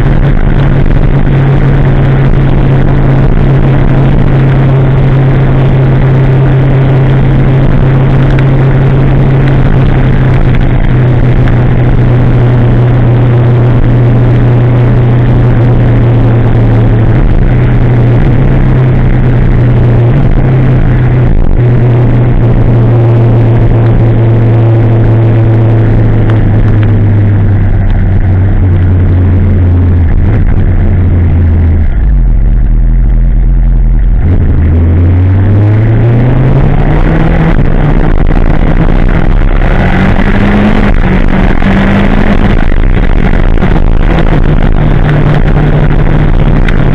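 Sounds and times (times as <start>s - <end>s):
motorcycle engine: 0.0s - 46.9s
rain: 0.0s - 46.9s.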